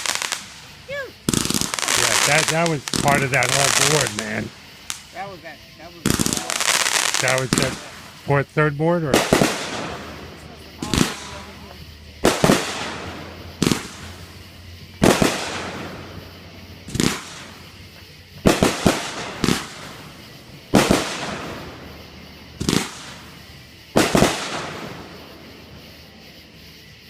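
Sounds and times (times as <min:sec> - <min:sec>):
fireworks banging: 0:00.0 - 0:26.6.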